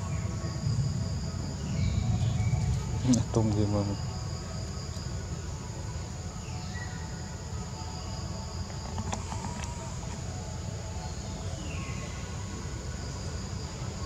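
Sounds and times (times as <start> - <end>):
high buzzing of insects: 0.0 - 14.0.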